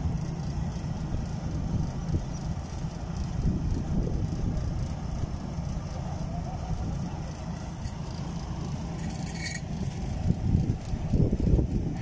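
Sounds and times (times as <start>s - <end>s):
diesel engines rumbling: 0.0s - 12.0s.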